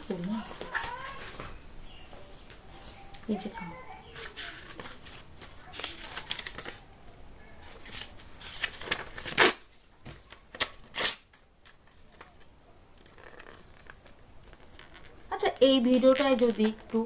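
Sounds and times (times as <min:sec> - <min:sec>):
paper rustling and scratching: 0:00.1 - 0:06.9, 0:07.6 - 0:09.6, 0:10.2 - 0:15.4.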